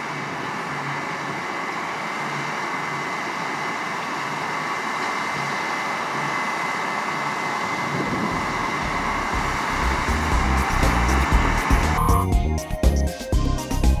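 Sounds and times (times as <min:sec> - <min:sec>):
high machinery whine: 0:00.0 - 0:12.5
combine harvester rumble: 0:00.0 - 0:12.6.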